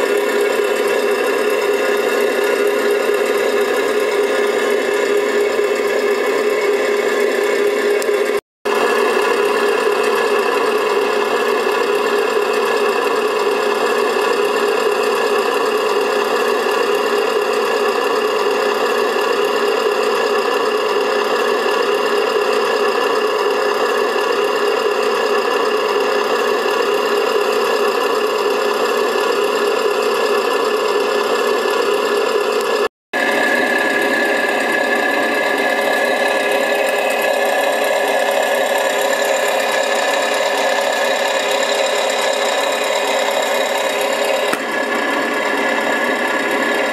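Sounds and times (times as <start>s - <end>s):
toy truck mechanical hum: 0.0s - 46.9s.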